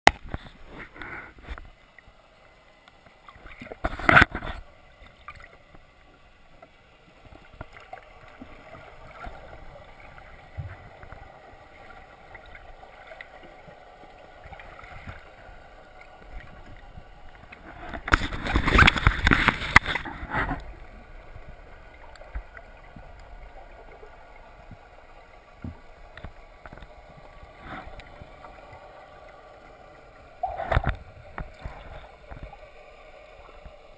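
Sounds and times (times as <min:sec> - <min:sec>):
rush of water: 0:00.1 - 0:33.9.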